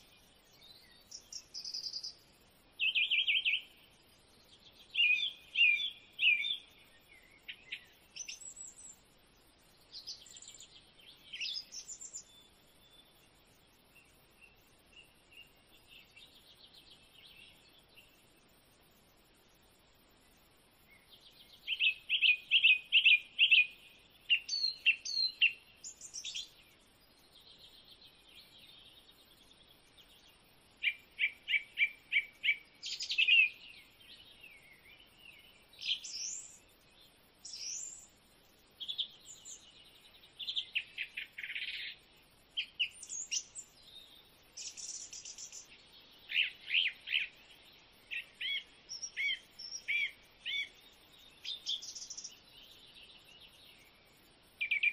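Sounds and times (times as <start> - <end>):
birds singing: 0.1 - 9.0, 9.9 - 13.2, 20.9 - 38.1, 38.8 - 42.0, 42.6 - 54.9.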